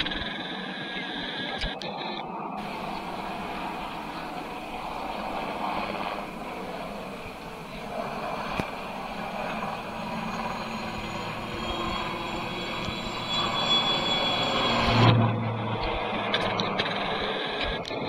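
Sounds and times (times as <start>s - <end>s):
helicopter flying overhead: 0.0s - 18.0s.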